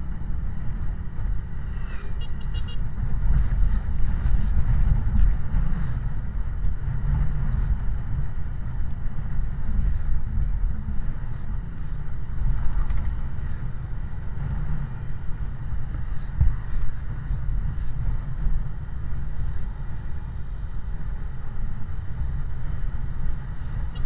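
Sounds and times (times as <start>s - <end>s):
road vehicle rumble: 0.0s - 24.0s
wind buffeting microphone: 2.8s - 24.0s.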